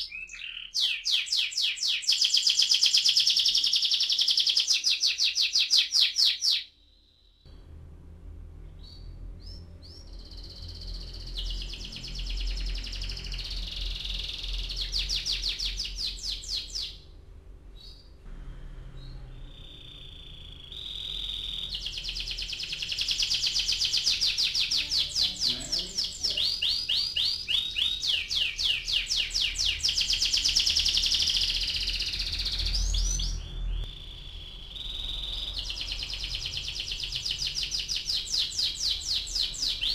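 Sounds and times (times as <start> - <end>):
canary singing trills: 0.0 - 7.4, 8.8 - 17.2, 19.0 - 39.9
low steady background hum: 0.3 - 39.9.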